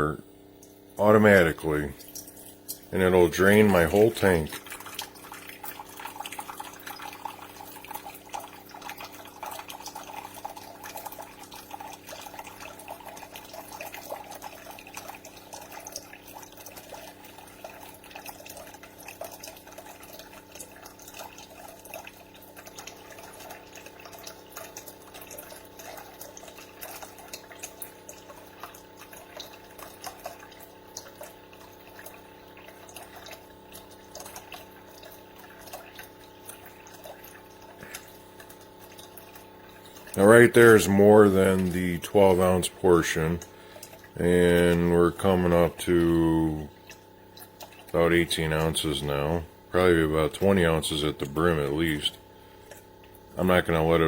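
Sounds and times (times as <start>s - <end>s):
water pouring into a cup: 0.6s - 54.0s.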